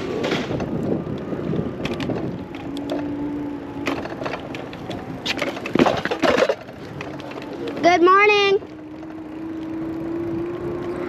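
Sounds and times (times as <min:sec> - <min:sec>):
bicycle tyres rumbling on path: 0:00.0 - 0:11.0
bike rattles and clicks: 0:00.0 - 0:11.0
wind on microphone: 0:00.0 - 0:11.0.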